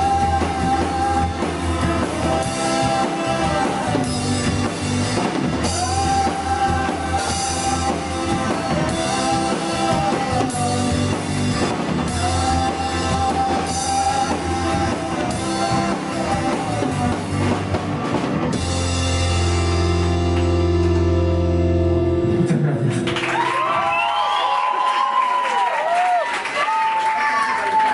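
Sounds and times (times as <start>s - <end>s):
rock band playing: 0.0s - 25.1s.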